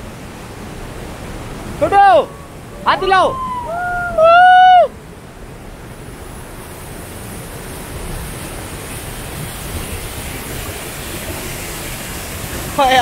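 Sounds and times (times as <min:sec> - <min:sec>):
river water rushing over boulders: 0:00.0 - 0:13.0.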